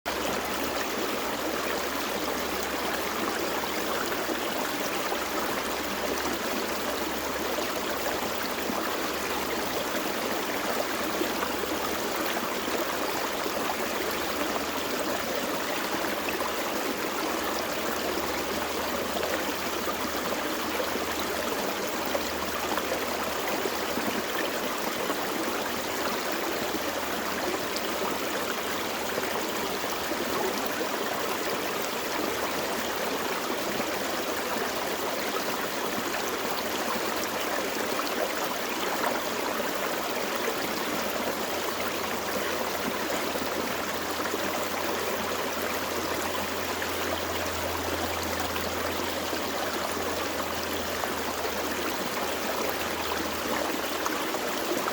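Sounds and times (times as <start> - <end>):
forest stream flowing over rocks: 0.1 - 54.9.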